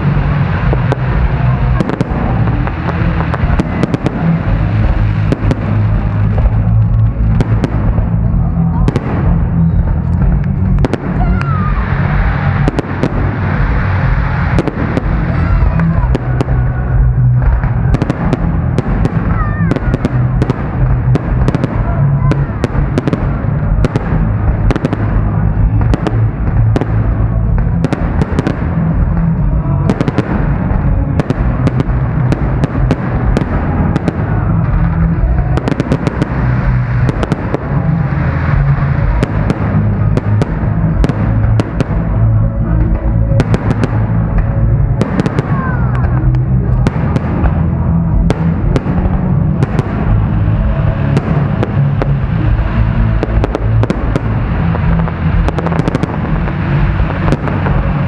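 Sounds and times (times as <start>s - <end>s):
fireworks bursting with sharp bangs: 0.0s - 58.0s
heavy low rumble: 0.0s - 58.0s.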